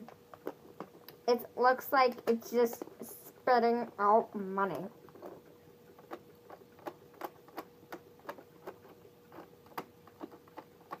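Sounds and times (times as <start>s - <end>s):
regular mechanical clicking: 0.0s - 11.0s.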